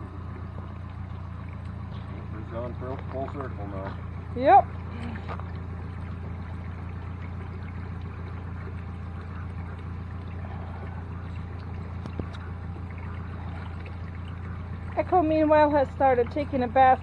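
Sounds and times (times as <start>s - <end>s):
steady low hum: 0.0s - 17.0s
water sloshing: 0.0s - 17.0s.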